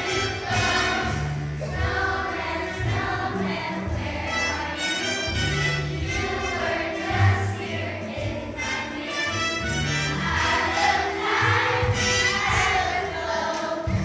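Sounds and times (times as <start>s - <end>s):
children's choir singing: 0.0s - 14.0s
held bass notes: 0.0s - 14.0s
instrumental accompaniment: 0.0s - 14.0s.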